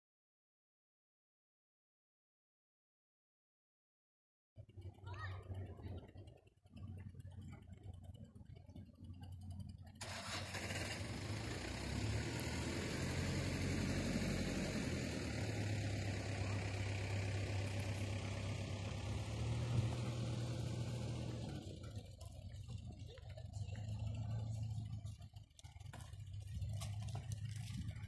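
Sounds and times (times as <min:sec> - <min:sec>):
engine humming with hiss: 0:04.6 - 0:28.0.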